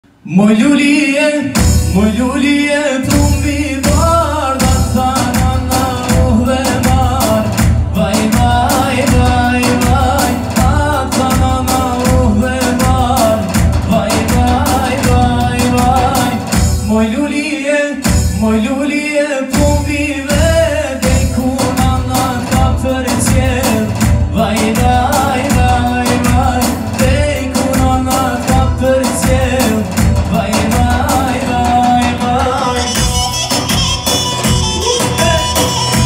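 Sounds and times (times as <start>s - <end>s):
man singing into microphone: 0.1s - 36.0s
steady drum beat: 1.4s - 18.9s, 19.5s - 36.0s
keyboard accompaniment: 1.4s - 36.0s.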